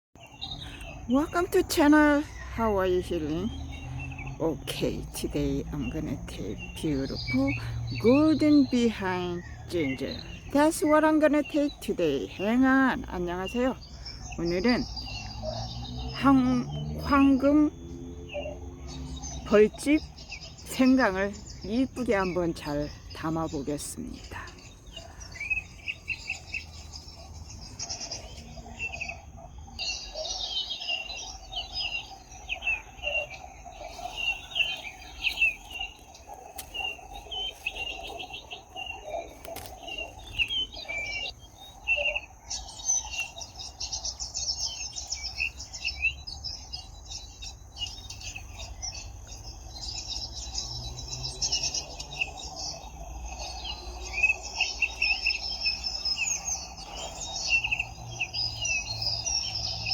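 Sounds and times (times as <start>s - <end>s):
birds chirping and twittering: 0.2s - 59.9s
high insect drone: 0.3s - 59.9s.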